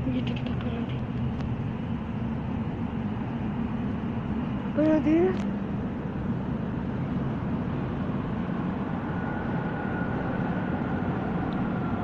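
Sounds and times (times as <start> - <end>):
metro train rumbling in tunnel: 0.0 - 12.0.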